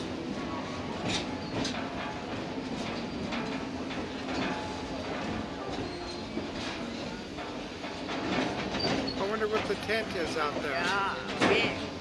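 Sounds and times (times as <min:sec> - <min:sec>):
rumble of wheels on rail: 0:00.0 - 0:12.0
wheels clacking over rail joints: 0:00.0 - 0:12.0.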